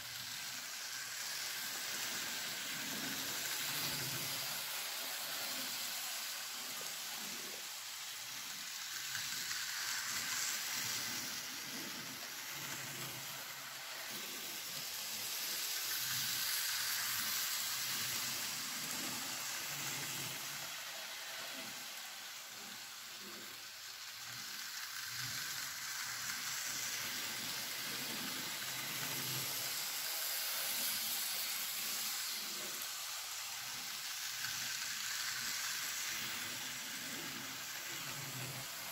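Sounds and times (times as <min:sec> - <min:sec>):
model trains running on track: 0:00.0 - 0:38.9.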